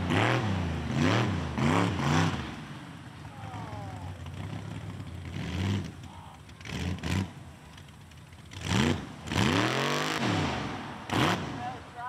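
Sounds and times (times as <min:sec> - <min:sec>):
truck engine revving: 0:00.0 - 0:11.9.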